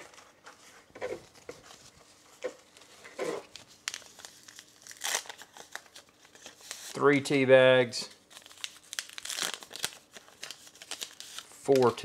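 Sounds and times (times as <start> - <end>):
paper wrappers crinkling and tearing: 0.0 - 7.0, 8.2 - 12.0.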